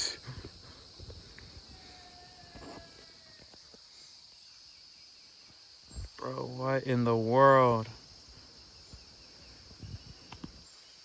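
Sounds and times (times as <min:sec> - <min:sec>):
faint insect chorus: 0:00.0 - 0:11.0.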